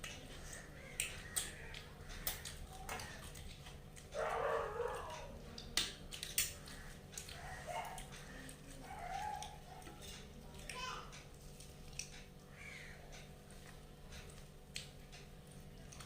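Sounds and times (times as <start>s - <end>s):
people eating by hand: 0.0s - 16.0s.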